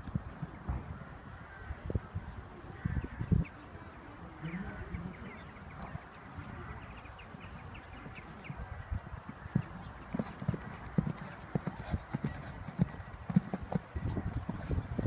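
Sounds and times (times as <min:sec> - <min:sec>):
small birds chirping: 0:01.5 - 0:15.0.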